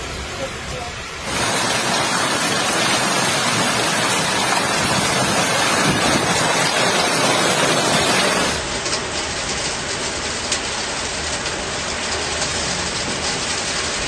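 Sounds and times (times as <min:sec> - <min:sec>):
heavy rain and hail: 0:00.0 - 0:14.0.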